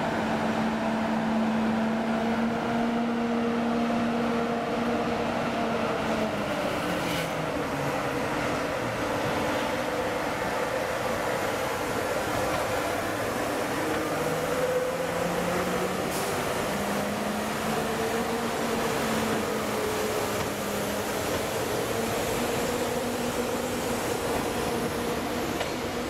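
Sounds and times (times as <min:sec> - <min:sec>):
humming tones of train: 0:00.0 - 0:26.0
train rumbling past: 0:00.0 - 0:26.0.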